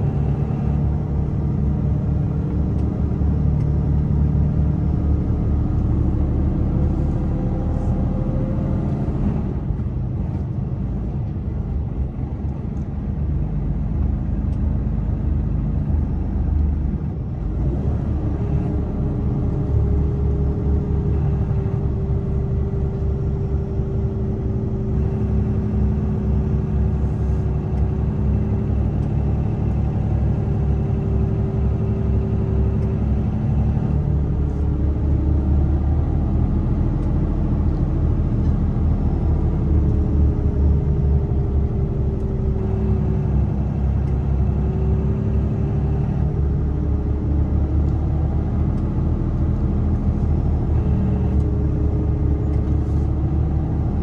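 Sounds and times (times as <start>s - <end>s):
road rumble: 0.0s - 54.0s
truck diesel engine running: 0.0s - 54.0s.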